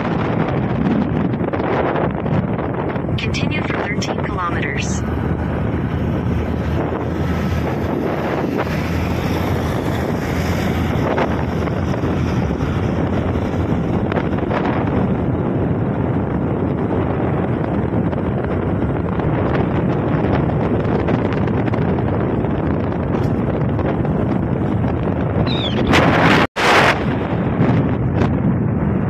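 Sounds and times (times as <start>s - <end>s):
moving vehicle rumble: 0.0s - 29.0s
wind buffeting microphone: 0.0s - 29.0s.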